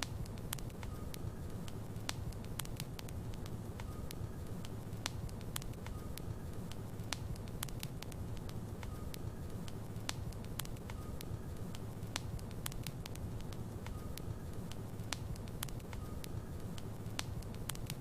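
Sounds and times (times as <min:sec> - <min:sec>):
burning wood crackling and popping: 0:00.0 - 0:18.0
low rumble of flame: 0:00.0 - 0:18.0.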